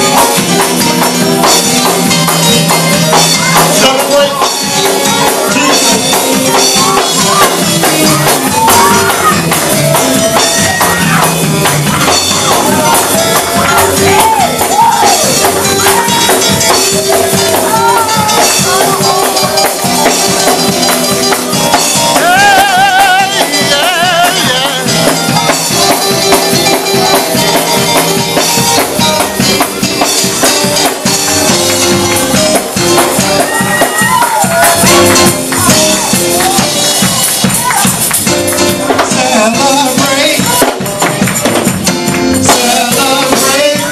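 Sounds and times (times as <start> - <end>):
drums and tambourine beat: 0.0 - 43.9
people singing and shouting: 0.0 - 43.9.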